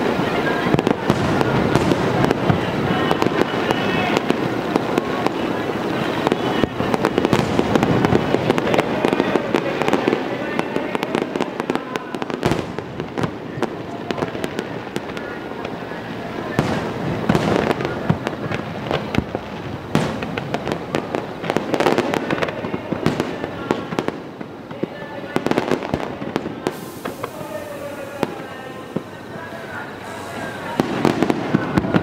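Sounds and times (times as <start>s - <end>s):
continuous rumble: 0.0s - 26.6s
fireworks bangs and crackles: 0.0s - 32.0s.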